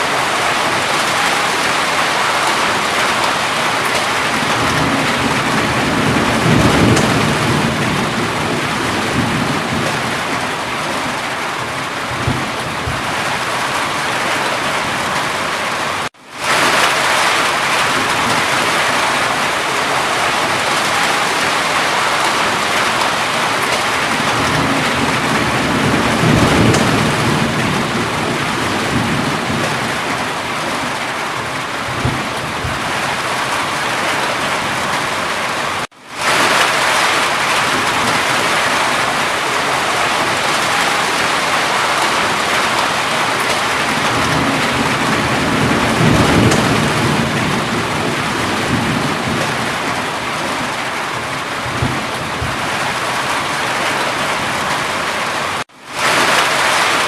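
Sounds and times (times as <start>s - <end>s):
heavy rain: 0.0s - 57.0s
distant thunder rumbling: 0.1s - 15.4s, 16.4s - 35.2s, 36.2s - 54.8s.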